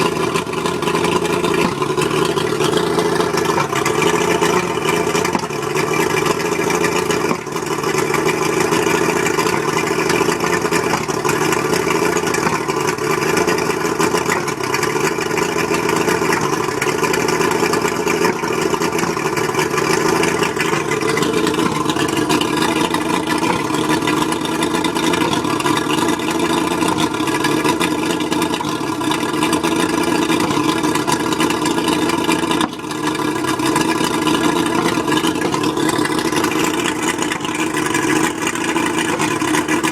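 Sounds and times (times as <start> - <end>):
outboard motor running rough: 0.0 - 39.9.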